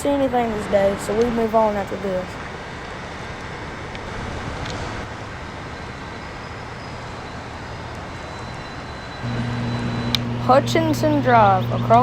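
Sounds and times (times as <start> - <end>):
distant road traffic hum: 0.0 - 12.0.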